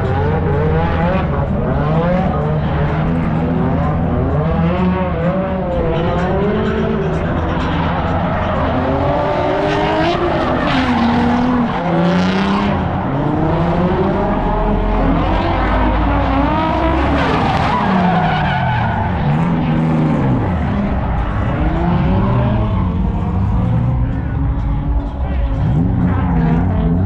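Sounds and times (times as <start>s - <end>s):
car engine revving: 0.0s - 27.0s
tyres skidding: 0.0s - 27.0s.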